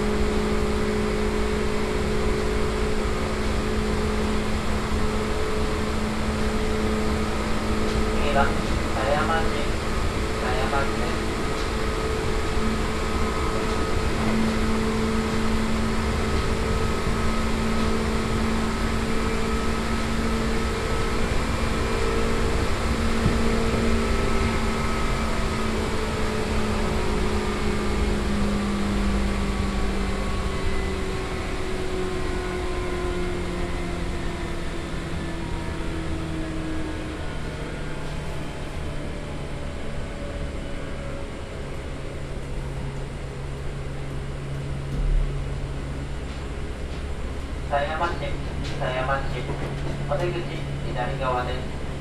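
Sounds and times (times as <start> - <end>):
electric train motor whine: 0.0 - 48.8.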